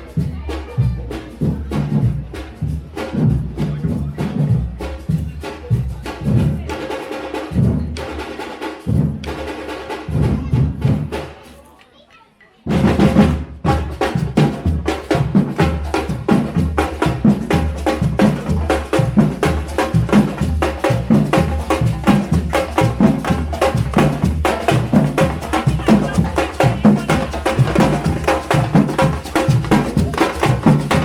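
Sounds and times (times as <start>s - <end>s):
fast drumming: 0.0s - 11.5s, 12.6s - 31.0s
wood-block-like clacks: 0.1s - 13.1s, 13.7s - 31.0s.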